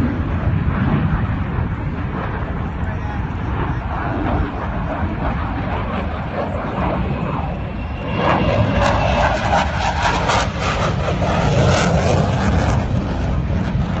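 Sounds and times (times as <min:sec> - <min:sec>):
fighter jet flying overhead: 0:00.0 - 0:14.0.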